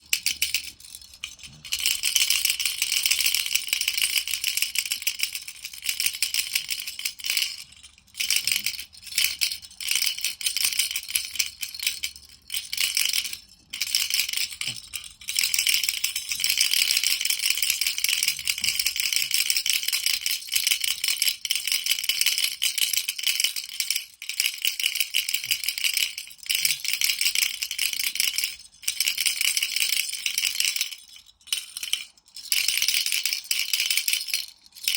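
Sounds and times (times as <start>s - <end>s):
baby rattle shaken: 0.0s - 34.9s.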